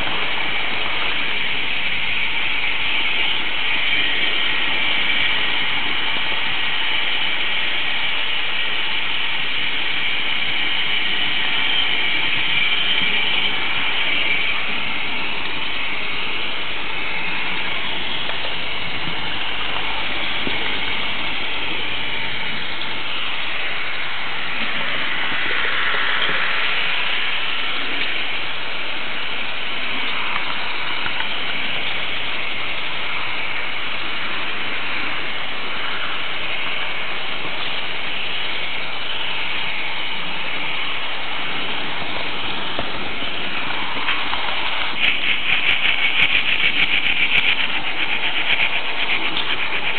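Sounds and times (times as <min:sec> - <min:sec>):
model train wheels and motor rolling: 0:00.0 - 0:49.9.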